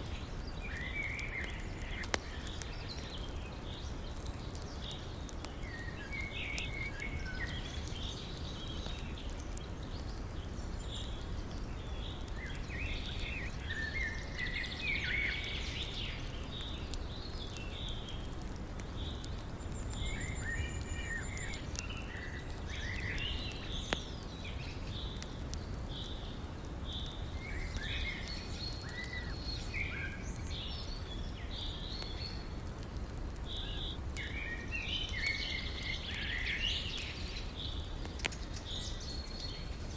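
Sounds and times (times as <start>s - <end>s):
campfire crackling: 0.0s - 39.9s
birds singing and calling: 0.1s - 26.3s, 26.9s - 32.5s, 33.5s - 39.9s.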